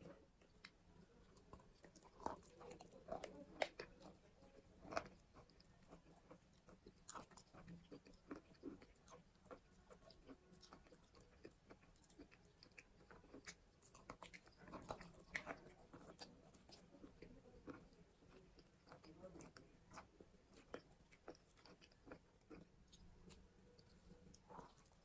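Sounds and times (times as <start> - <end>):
chewing and crunching chalk: 0.0 - 25.0.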